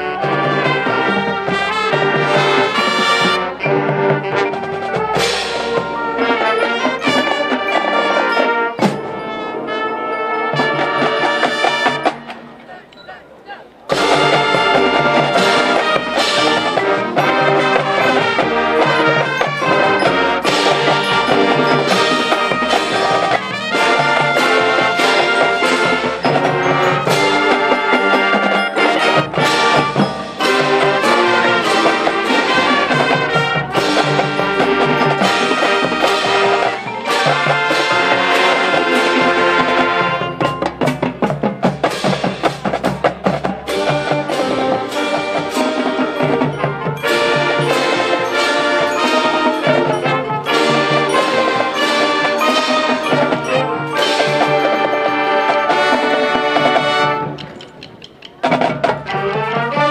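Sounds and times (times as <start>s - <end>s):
marching band playing: 0.0s - 59.9s.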